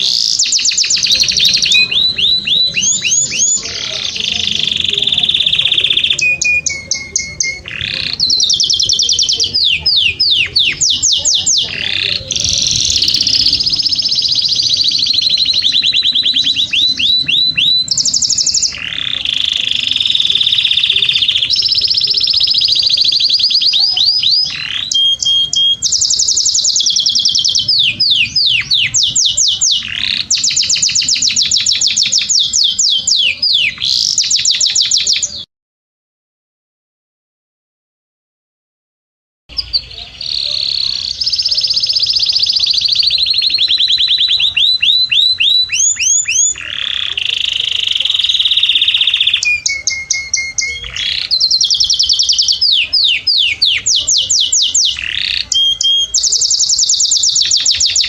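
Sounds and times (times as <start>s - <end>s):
canary singing trills: 0.0s - 35.5s, 39.5s - 58.0s.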